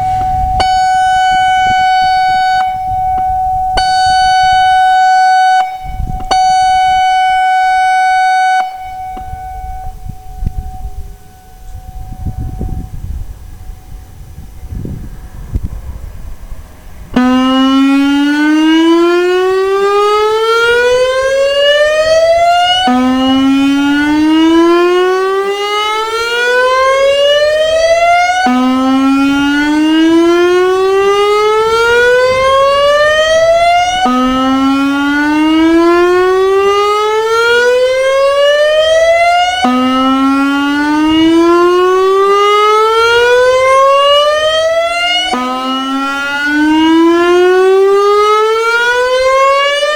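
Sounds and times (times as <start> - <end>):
warning siren wailing: 0.0 - 49.9.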